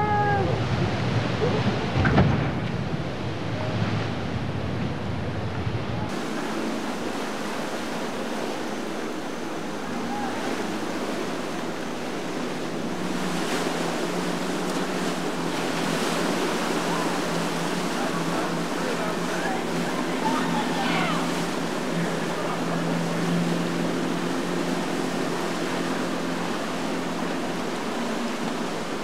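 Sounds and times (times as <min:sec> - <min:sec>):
low wind rumble on microphone: 0:00.0 - 0:29.0
rushing splashing water: 0:00.0 - 0:29.0.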